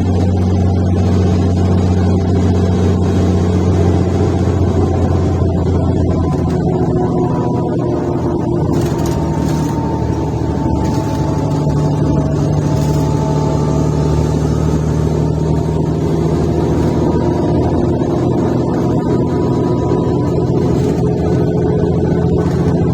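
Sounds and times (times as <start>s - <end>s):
bus engine drone: 0.0s - 22.9s.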